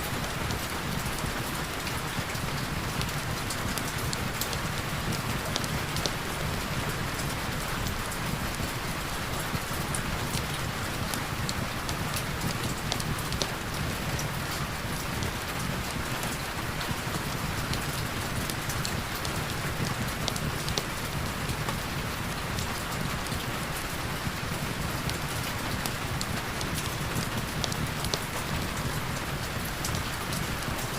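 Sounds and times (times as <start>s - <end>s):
heavy rain: 0.0s - 30.9s
sharp rain ticks: 0.0s - 30.9s.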